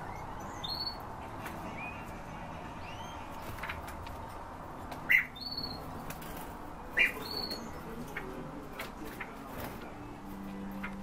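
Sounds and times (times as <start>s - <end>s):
caged birds calling: 0.0s - 11.0s.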